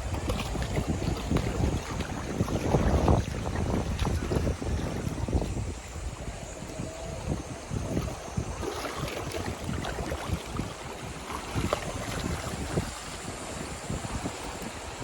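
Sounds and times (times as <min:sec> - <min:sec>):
waves washing on a beach: 0:00.0 - 0:15.0
wind buffeting microphone: 0:00.0 - 0:15.0.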